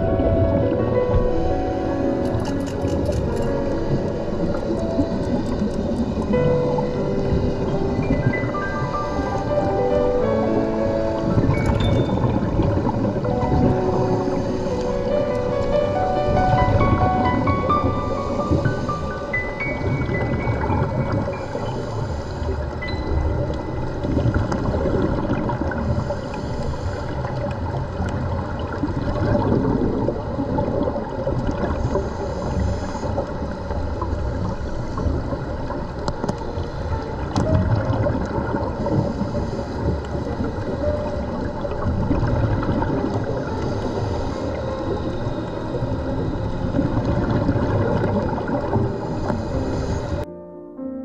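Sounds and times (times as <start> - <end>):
gurgling exhaled bubbles: 0.0 - 50.2
underwater rushing noise: 0.0 - 50.3.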